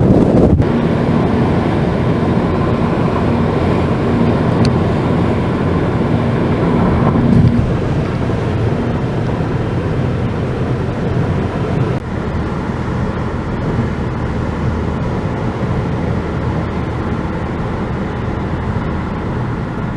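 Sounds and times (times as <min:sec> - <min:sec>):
car road and engine rumble: 0:00.0 - 0:19.9.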